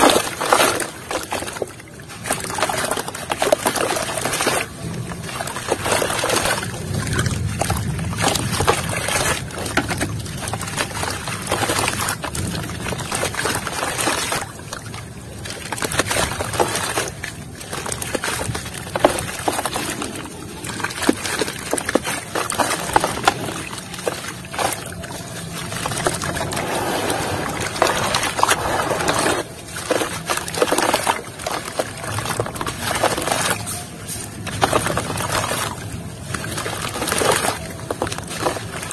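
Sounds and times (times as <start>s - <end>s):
soil crumbling by hand: 0.0s - 38.9s
water splashing and sloshing: 0.0s - 38.9s.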